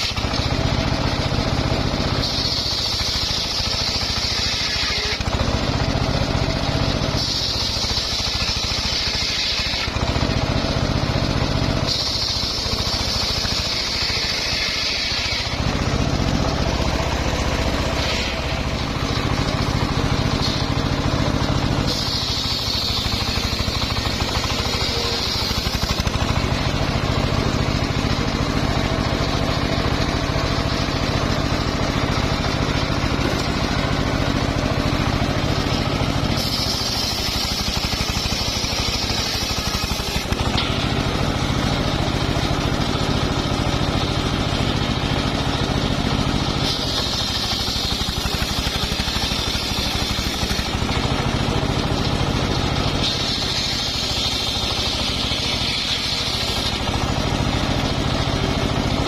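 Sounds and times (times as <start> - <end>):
saw cutting wood: 0.0 - 59.0
sawmill engine running: 0.0 - 59.0.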